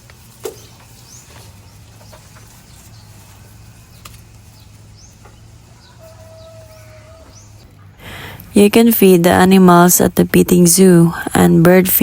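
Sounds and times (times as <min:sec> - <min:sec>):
small birds chirping: 0:00.0 - 0:10.8
steady low hum: 0:00.0 - 0:12.0.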